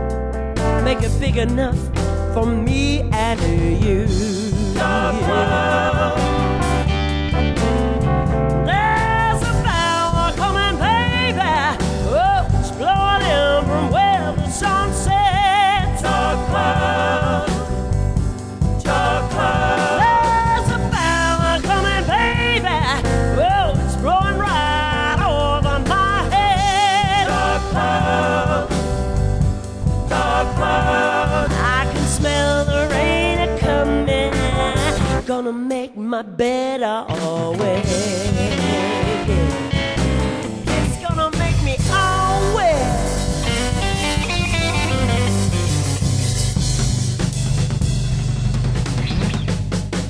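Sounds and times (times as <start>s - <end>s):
full band backing: 0.0s - 35.4s, 36.4s - 50.0s.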